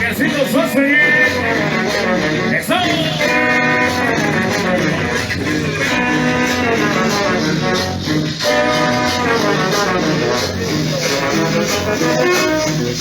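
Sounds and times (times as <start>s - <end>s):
cumbia dance music: 0.0s - 13.0s.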